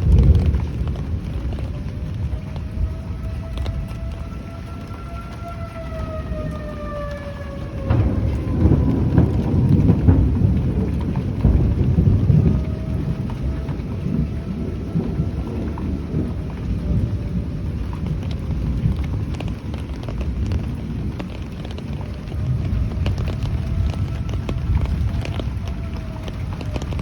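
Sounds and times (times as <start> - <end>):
loud low rumble: 0.0 - 5.0, 7.5 - 27.0
distant warning siren wailing: 0.0 - 27.0
heavy storm rain: 0.0 - 27.0.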